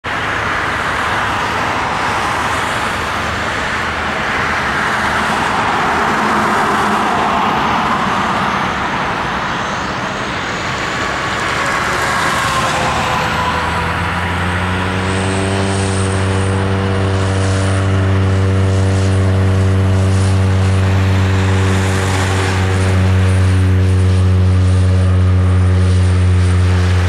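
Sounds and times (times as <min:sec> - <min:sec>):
turboprop engine whining hum: 0:00.0 - 0:27.0.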